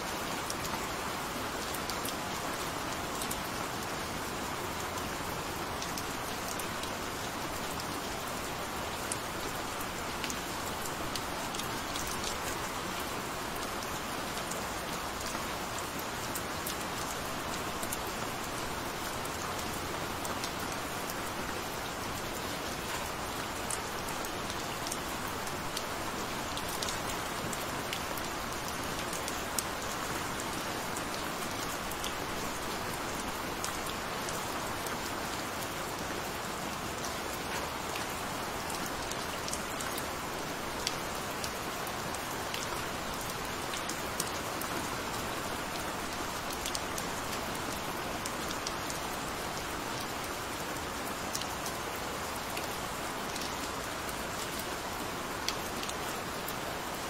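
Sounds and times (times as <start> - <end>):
rain hiss: 0.0 - 57.0
raindrops ticking on surface: 0.1 - 57.0.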